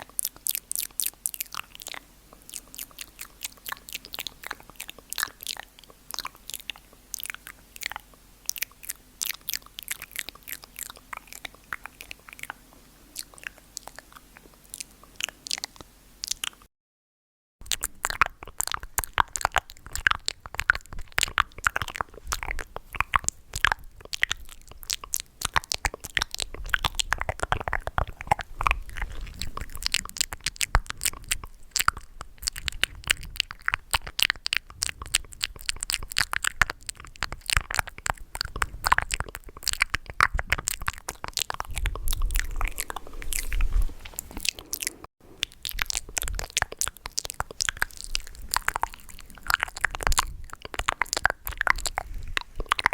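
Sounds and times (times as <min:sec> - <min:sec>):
mouth clicks and smacks: 0:00.0 - 0:16.7, 0:17.6 - 0:52.9.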